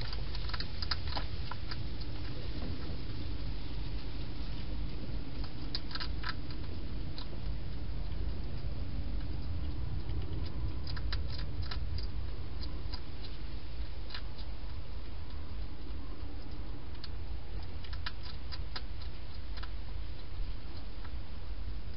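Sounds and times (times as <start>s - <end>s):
hedgehog crunching food: 0.0s - 21.9s
steady low hiss: 0.0s - 21.9s.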